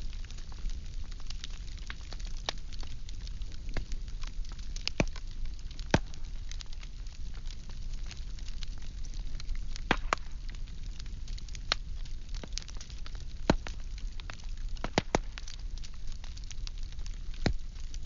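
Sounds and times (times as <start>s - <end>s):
firewood crackling and popping: 0.0s - 18.0s
flame rumble and hiss: 0.0s - 18.0s.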